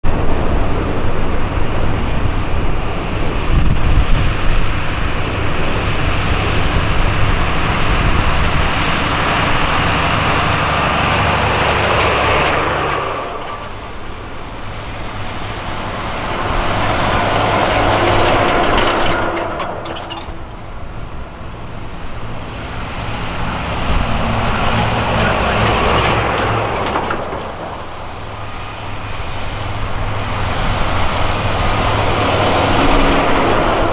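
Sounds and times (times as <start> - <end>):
trucks driving past: 0.0 - 33.9.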